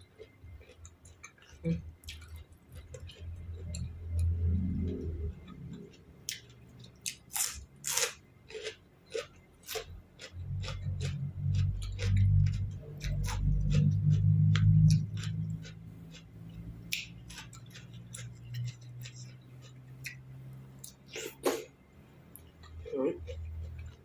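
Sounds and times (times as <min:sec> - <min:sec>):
person chewing and crunching: 0:00.0 - 0:24.0.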